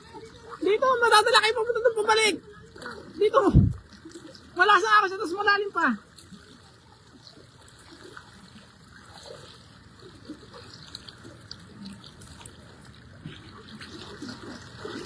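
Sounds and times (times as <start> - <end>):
floodwater running and splashing: 0.0 - 15.0.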